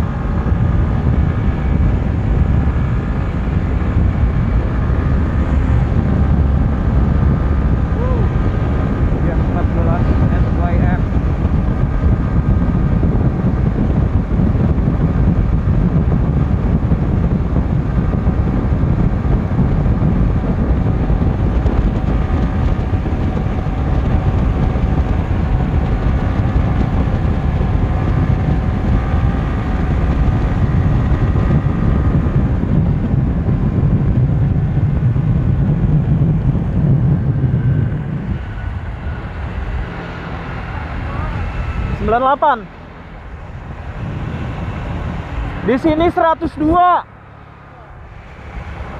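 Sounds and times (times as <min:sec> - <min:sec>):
motorcycle engine drone: 0:00.0 - 0:48.9
wind rush on microphone: 0:00.0 - 0:48.9.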